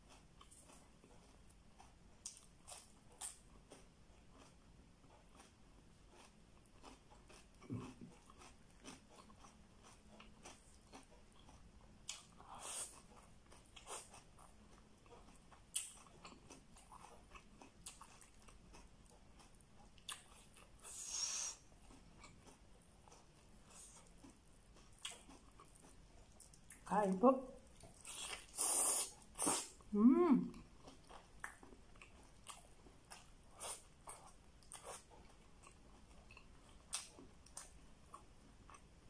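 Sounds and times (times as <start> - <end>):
person chewing food: 0.0 - 26.9, 27.6 - 39.0.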